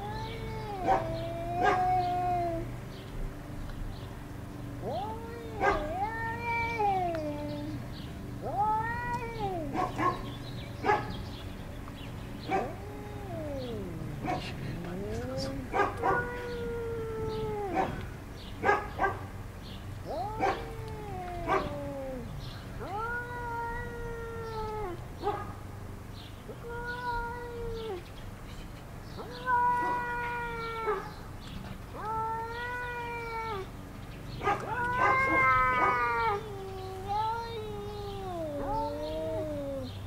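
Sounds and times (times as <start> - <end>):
cats yowling: 0.0 - 2.8, 4.7 - 11.3, 12.4 - 19.3, 20.0 - 25.5, 26.5 - 28.0, 29.2 - 31.3, 31.9 - 40.0.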